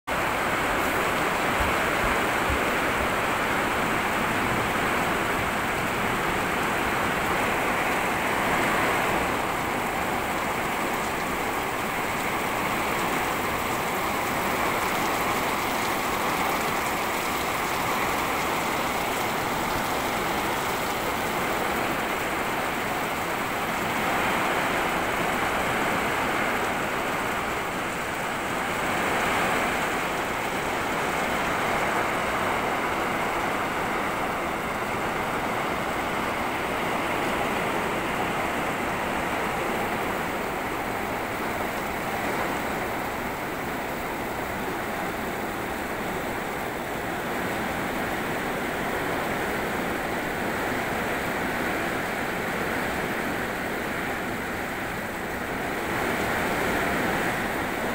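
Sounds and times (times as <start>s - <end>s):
heavy rain falling: 0.1s - 57.9s.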